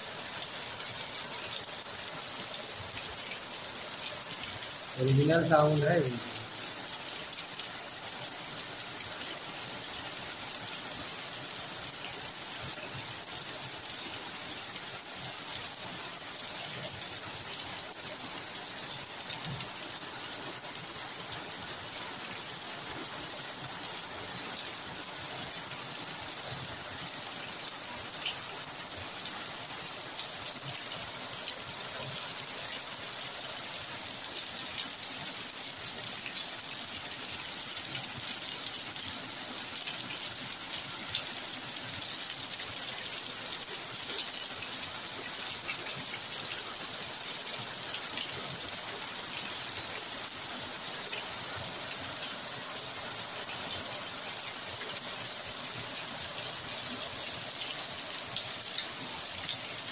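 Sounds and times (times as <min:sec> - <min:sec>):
heavy rain on leaves and water: 0:00.0 - 0:59.9.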